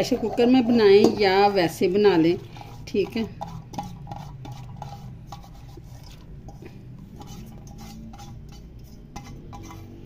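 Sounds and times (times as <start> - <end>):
hand scraping a steel pot: 0.0 - 10.0.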